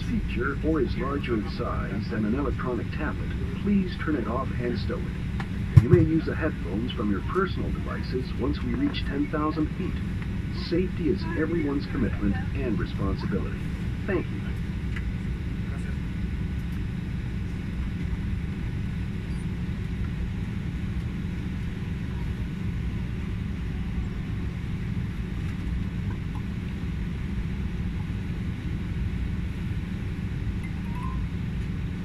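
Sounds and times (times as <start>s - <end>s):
airliner cabin rumble and hiss: 0.0s - 32.0s
faint whining tones: 0.0s - 32.0s.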